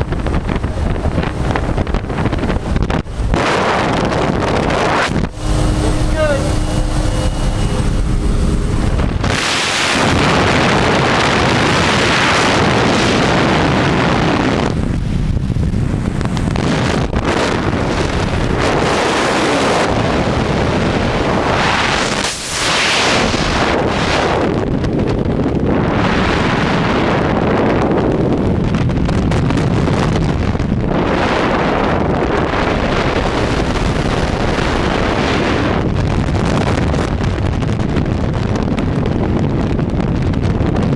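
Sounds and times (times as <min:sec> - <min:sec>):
heavy wind on microphone: 0:00.0 - 0:40.9.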